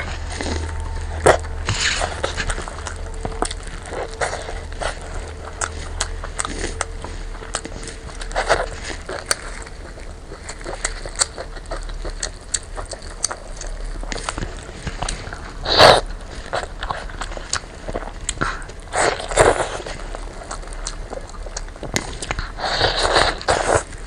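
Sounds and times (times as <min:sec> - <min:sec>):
chewing with wet mouth clicks: 0:00.2 - 0:24.0.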